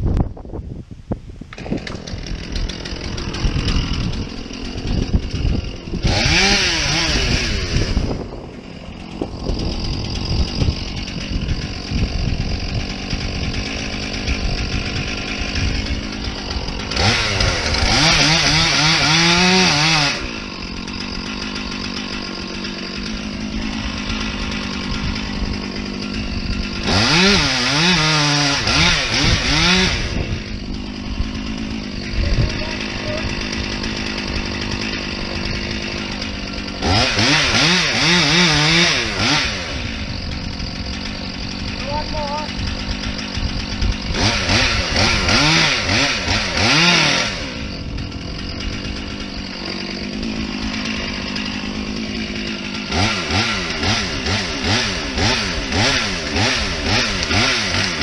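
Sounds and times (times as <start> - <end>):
chainsaw idling and revving: 1.4 - 58.0.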